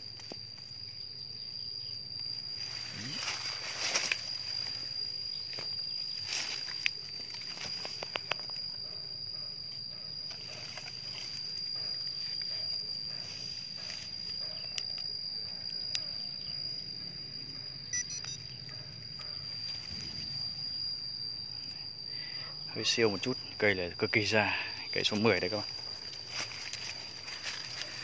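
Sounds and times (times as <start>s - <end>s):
insect trilling: 0.0s - 28.0s.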